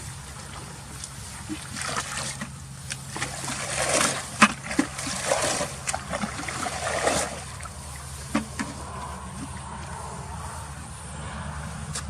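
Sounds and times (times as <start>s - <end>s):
steady low hum: 0.0s - 12.0s
water splashing and sloshing: 0.0s - 12.0s.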